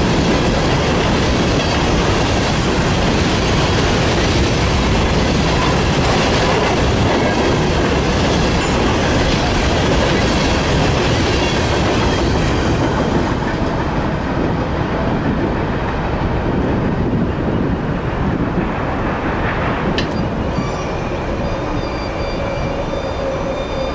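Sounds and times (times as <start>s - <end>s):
freight train wheels on rails: 0.0s - 23.9s.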